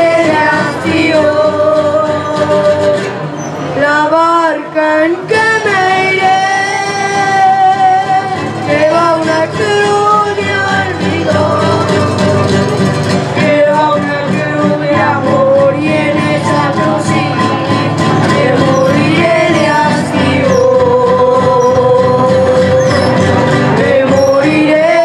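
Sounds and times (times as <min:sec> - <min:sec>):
boys singing: 0:00.0 - 0:03.1, 0:03.8 - 0:12.7, 0:13.4 - 0:25.0
acoustic guitars: 0:00.0 - 0:25.0.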